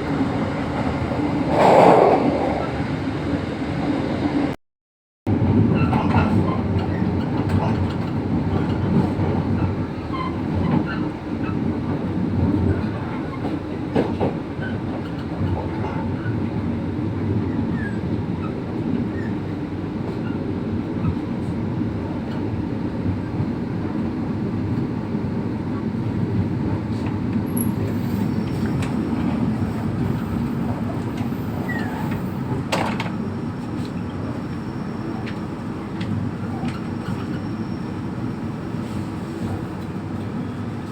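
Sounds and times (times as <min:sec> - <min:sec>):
passenger train on rails: 0:00.0 - 0:04.6, 0:05.3 - 0:40.9.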